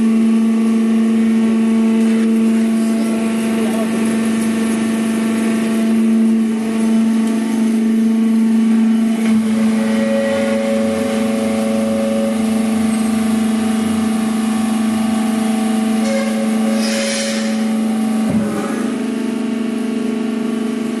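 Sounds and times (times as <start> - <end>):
hydraulic power unit humming: 0.0 - 21.0
higher whine: 2.6 - 20.5.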